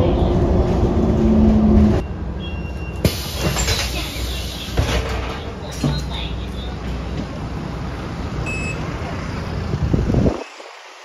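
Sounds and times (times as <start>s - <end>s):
bus clunk: 0.0s - 9.1s
electric bus hum: 0.0s - 11.0s.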